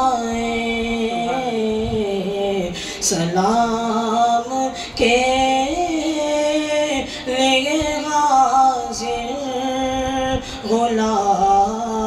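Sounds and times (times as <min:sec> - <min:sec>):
boy singing unaccompanied: 0:00.0 - 0:12.0.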